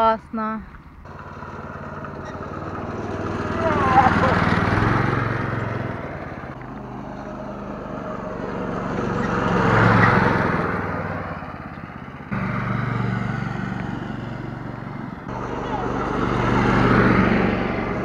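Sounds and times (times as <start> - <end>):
go-kart engines droning: 0.0 - 18.0.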